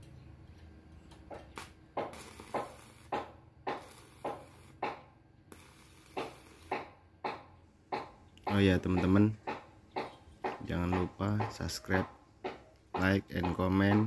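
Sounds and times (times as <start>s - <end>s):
hammer striking steel rebar: 1.3s - 5.1s, 6.1s - 14.0s.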